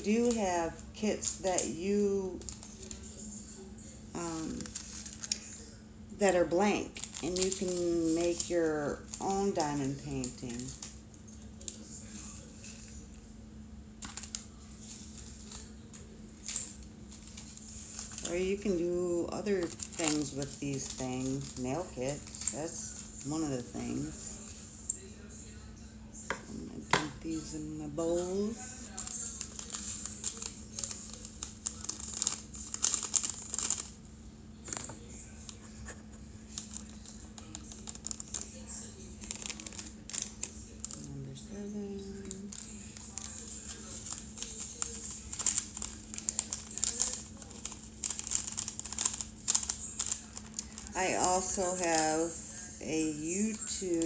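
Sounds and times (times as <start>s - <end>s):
plastic packets crinkling: 1.2s - 3.3s, 4.2s - 5.6s, 6.5s - 13.0s, 14.0s - 24.6s, 27.0s - 54.0s.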